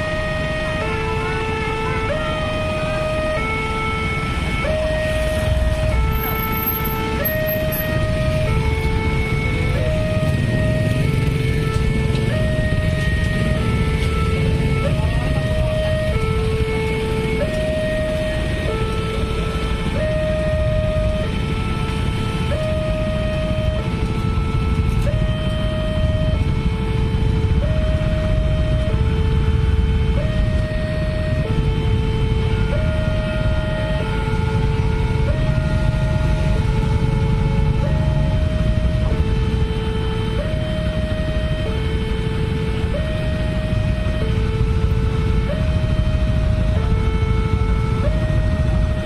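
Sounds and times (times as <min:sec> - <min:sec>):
two-tone crossing alarm: 0:00.0 - 0:49.0.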